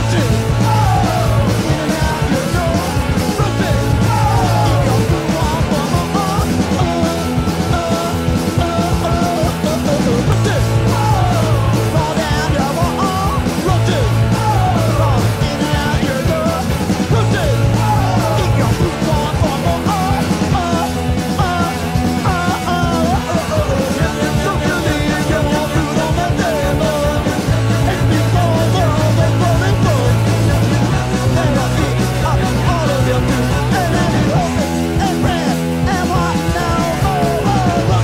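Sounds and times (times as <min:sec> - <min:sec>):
bass guitar: 0:00.0 - 0:38.0
drums: 0:00.0 - 0:38.0
electric guitar: 0:00.0 - 0:38.0.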